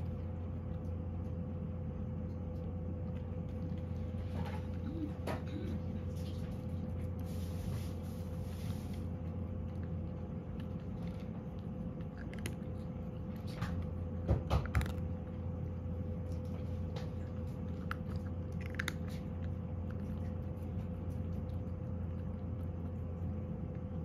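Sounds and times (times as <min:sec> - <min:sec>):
cat crunching dry kibble: 0:00.0 - 0:24.0.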